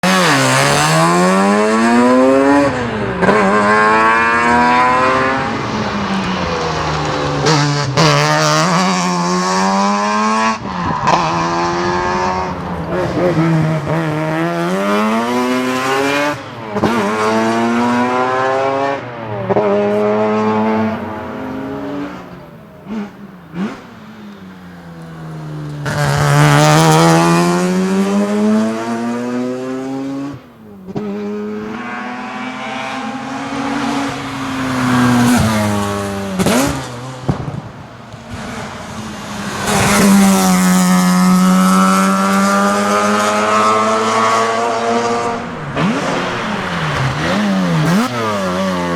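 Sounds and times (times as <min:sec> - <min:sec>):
rotary race engine accelerating: 0:00.0 - 0:37.6, 0:38.3 - 0:48.9.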